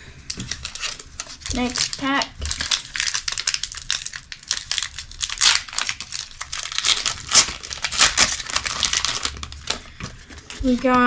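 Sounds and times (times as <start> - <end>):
foil wrapper crinkling: 0.3 - 11.0.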